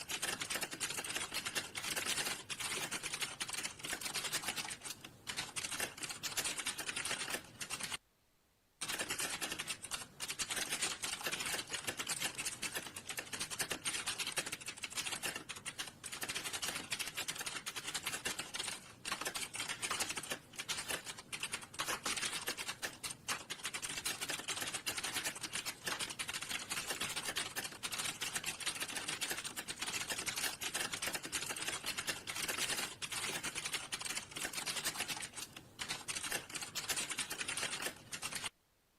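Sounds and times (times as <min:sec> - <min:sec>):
fast keyboard typing: 0:00.0 - 0:08.0, 0:08.8 - 0:38.6.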